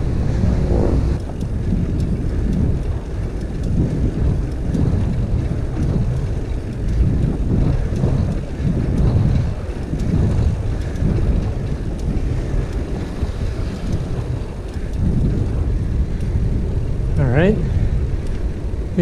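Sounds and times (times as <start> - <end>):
bicycle tyre rumble on pavement: 0.0 - 19.0
wind buffeting microphone: 0.0 - 19.0.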